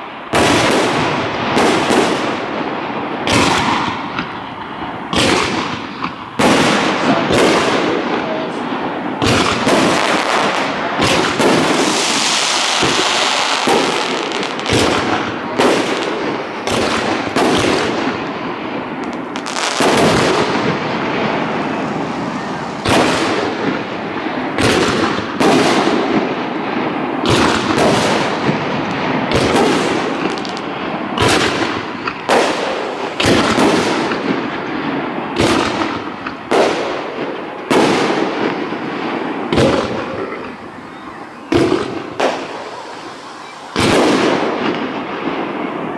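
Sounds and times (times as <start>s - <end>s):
fireworks bursting with sharp bangs: 0.0s - 45.9s
fireworks hissing and crackling: 0.0s - 45.9s.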